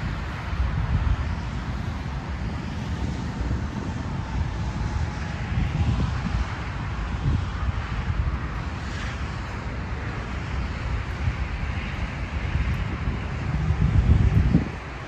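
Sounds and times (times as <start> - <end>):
passing aircraft: 0.0 - 15.0
wind buffeting microphone: 0.0 - 15.0.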